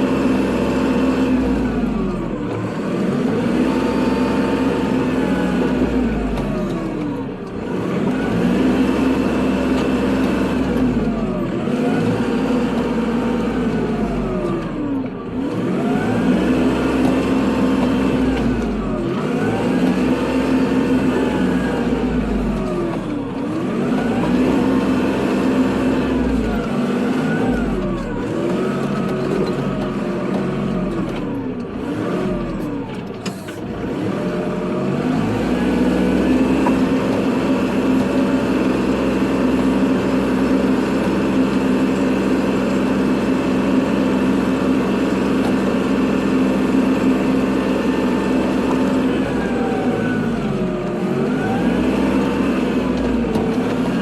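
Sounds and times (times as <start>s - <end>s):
tractor diesel engine plowing snow: 0.0s - 54.0s.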